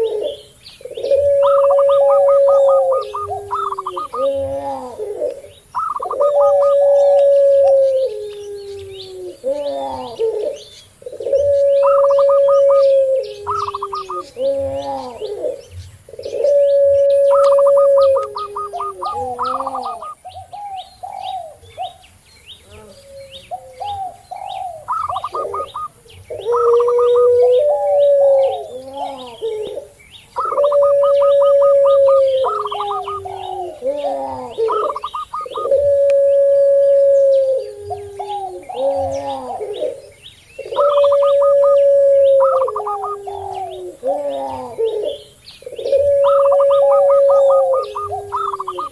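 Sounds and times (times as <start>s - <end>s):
higher bending dove coos: 0.0s - 22.0s, 22.6s - 48.9s
doves cooing: 0.0s - 48.9s
faint small birds chirping: 0.0s - 48.9s.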